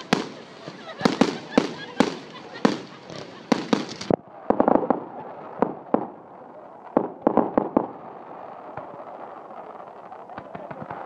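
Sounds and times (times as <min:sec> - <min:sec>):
fireworks bangs and pops: 0:00.0 - 0:11.0
fireworks crackling: 0:00.0 - 0:11.0.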